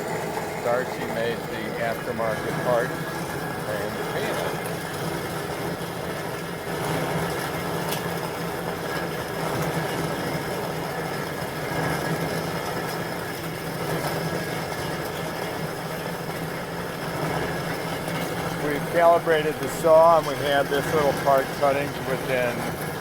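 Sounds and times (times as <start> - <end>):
metal-cutting bandsaw running: 0.0 - 23.0.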